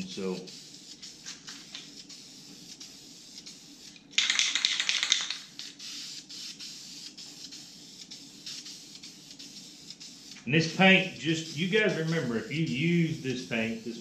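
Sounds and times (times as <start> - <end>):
spray-paint can hissing: 0.2 - 14.0.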